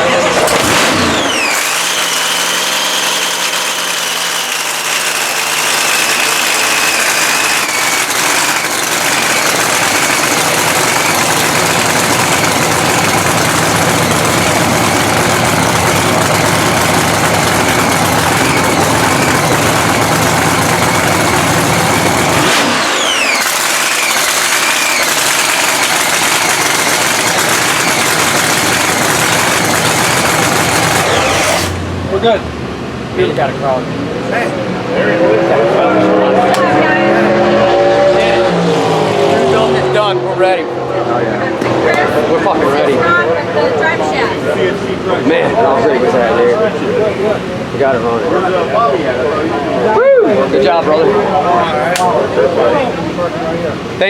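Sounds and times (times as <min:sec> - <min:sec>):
drag engine running loud: 0:00.0 - 0:49.8
high supercharger whine: 0:00.0 - 0:54.0.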